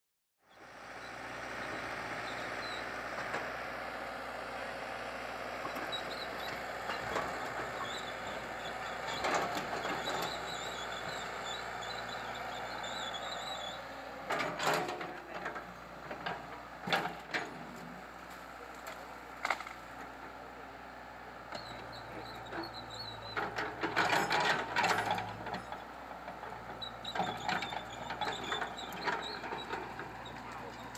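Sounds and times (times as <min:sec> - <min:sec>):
diesel engine running: 0:00.4 - 0:30.9.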